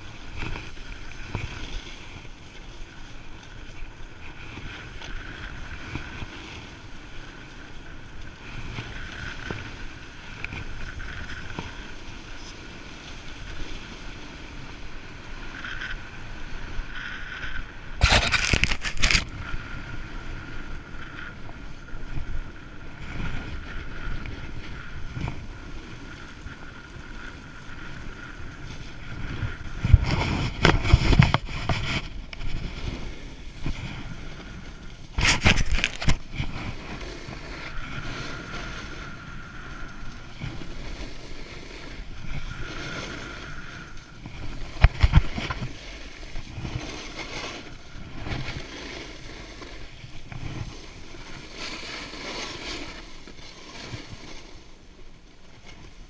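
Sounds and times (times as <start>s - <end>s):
skis scraping on snow: 0.0s - 56.0s
wind rushing over microphone: 0.0s - 56.0s.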